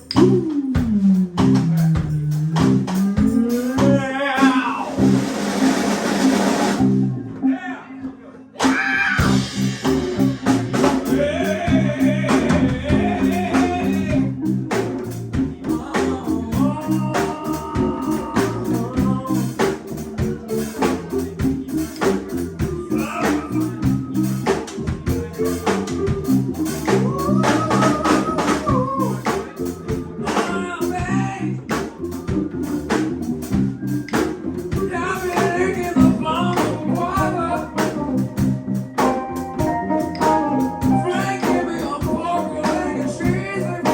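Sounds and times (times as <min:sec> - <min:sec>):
drum kit: 0:00.0 - 0:07.4, 0:08.6 - 0:43.9
sliding lead guitar line: 0:00.0 - 0:08.3, 0:09.2 - 0:43.9
electric guitar: 0:00.0 - 0:43.9.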